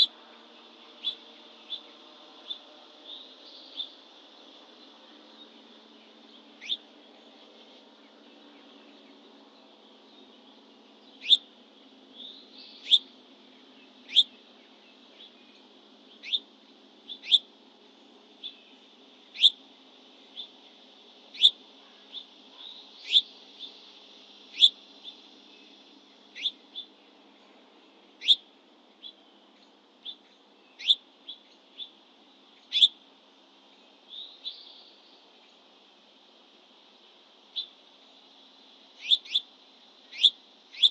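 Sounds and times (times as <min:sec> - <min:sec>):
songbird chip notes: 0:00.0 - 0:33.0, 0:39.0 - 0:40.9
faint high hum: 0:00.0 - 0:40.9.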